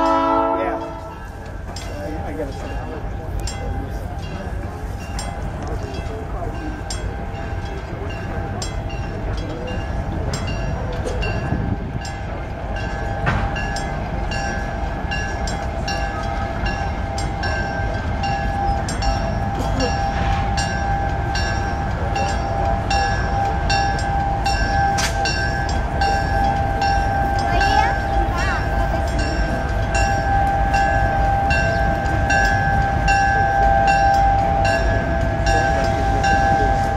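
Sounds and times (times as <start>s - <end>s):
bell ringing: 0.0s - 36.9s
passenger train rolling past: 0.0s - 36.9s.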